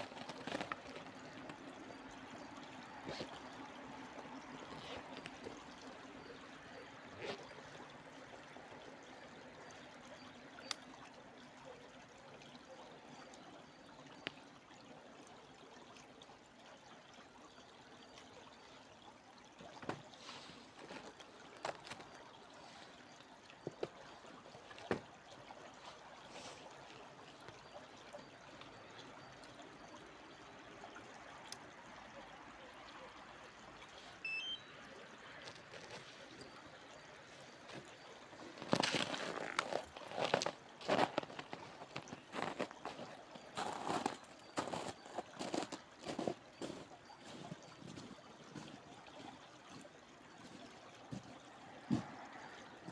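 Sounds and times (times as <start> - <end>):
stream trickling: 0.0 - 52.9.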